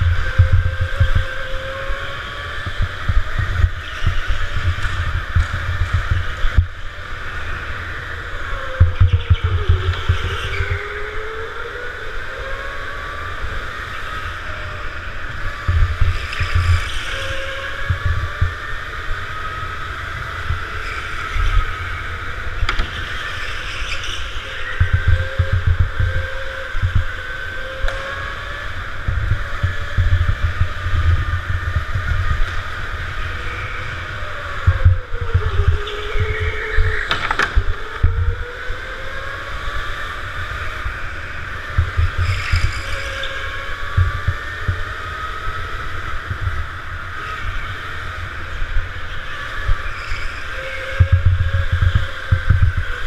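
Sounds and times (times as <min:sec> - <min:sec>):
go-kart motor whine: 0:00.0 - 0:53.0.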